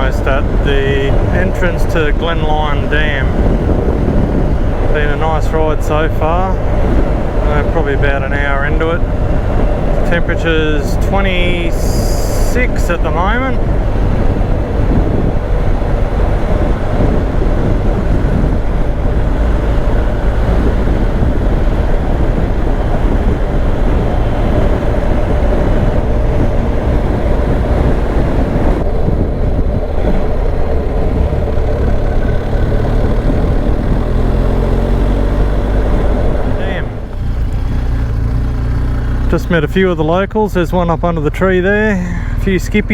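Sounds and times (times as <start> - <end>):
motorcycle engine running: 0.0 - 42.9
wind noise on microphone: 0.0 - 42.9.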